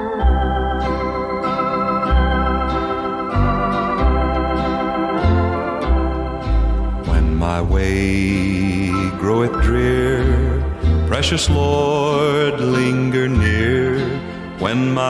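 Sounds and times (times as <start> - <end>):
organ playing chords: 0.0 - 15.0.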